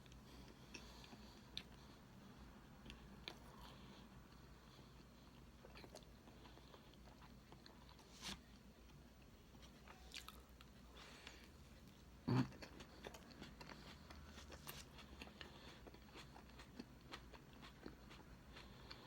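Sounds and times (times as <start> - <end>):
person chewing: 0.0 - 19.0.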